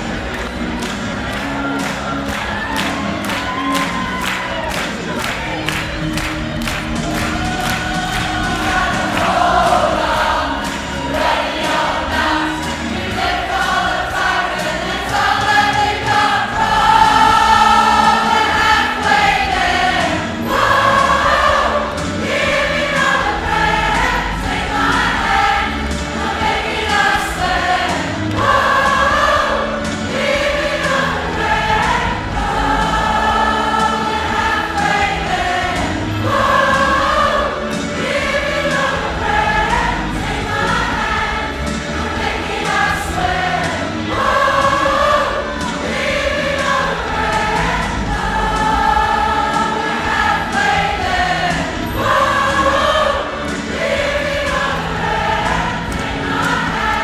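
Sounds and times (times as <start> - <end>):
choir singing long notes: 0.0 - 57.0.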